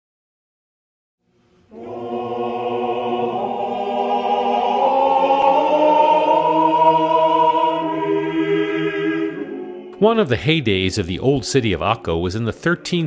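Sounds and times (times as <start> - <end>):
choir singing held chords: 1.6 - 13.0.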